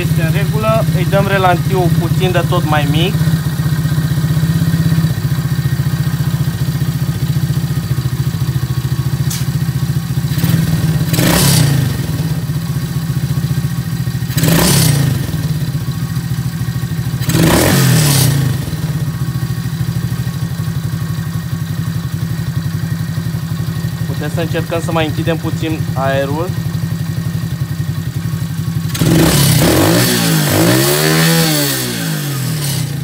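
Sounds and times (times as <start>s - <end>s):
engine idling and revving: 0.0s - 33.0s.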